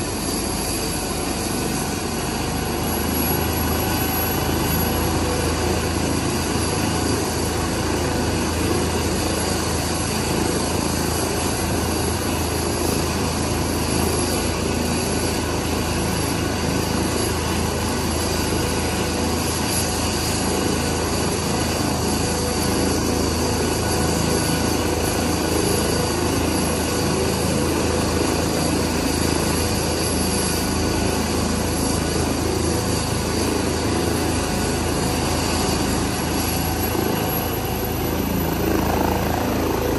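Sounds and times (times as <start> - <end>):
helicopter turbine whine and rotor: 0.0 - 39.9.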